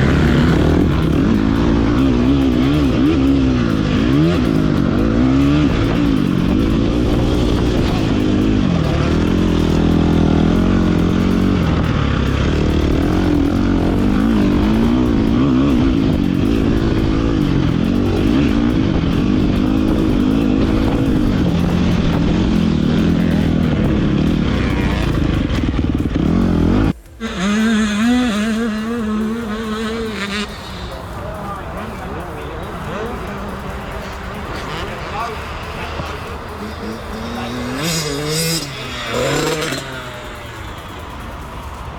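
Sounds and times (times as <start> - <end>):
dirt bike engine revving: 0.0 - 41.9
steady engine note: 0.0 - 41.9.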